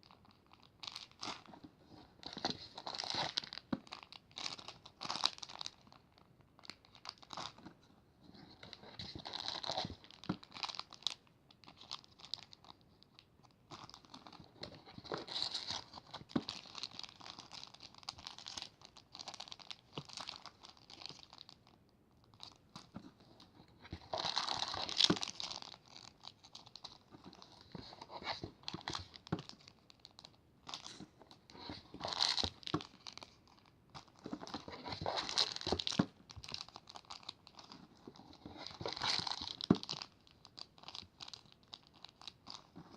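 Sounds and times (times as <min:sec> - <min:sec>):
plastic packaging crinkling: 0:00.0 - 0:42.9.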